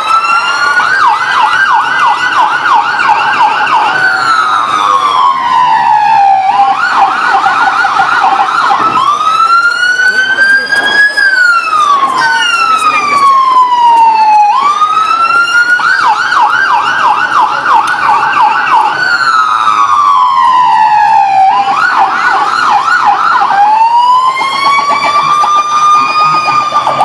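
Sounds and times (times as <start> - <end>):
electronic siren wailing: 0.0 - 27.0.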